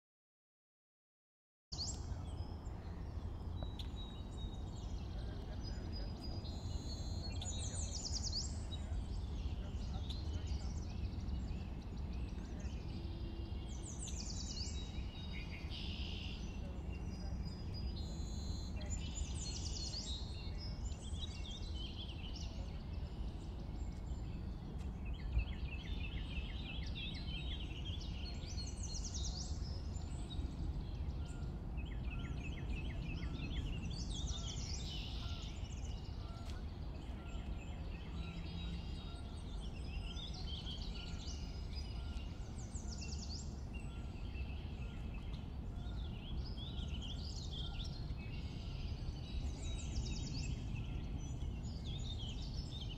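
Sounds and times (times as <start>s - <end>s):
songbirds singing: 1.8s - 52.9s.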